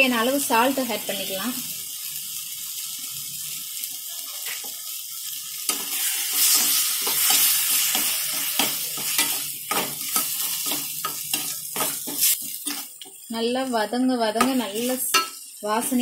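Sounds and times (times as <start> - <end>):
masala sizzling in pan: 0.0 - 16.0.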